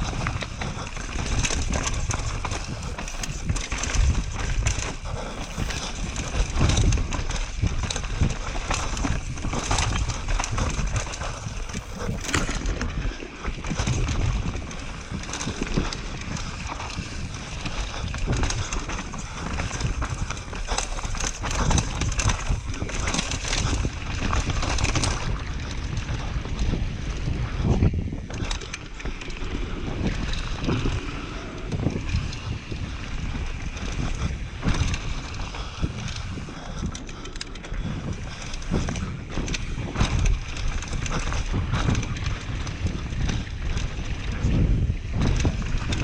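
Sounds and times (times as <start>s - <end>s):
bike knocking and rattling: 0.0s - 46.0s
bike tyres on dirt and rock: 0.0s - 46.0s
wind buffeting microphone: 0.0s - 46.0s.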